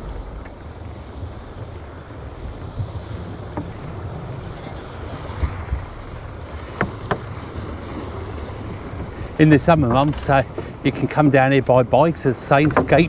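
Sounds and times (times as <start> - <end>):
short knocks: 0.0 - 11.3, 12.2 - 13.0
wind buffeting microphone: 0.0 - 13.0.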